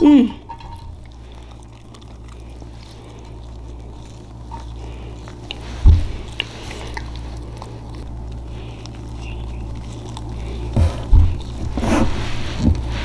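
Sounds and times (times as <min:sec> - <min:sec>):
chewing fries: 0:00.0 - 0:13.0
wet mouth clicks: 0:00.4 - 0:11.7.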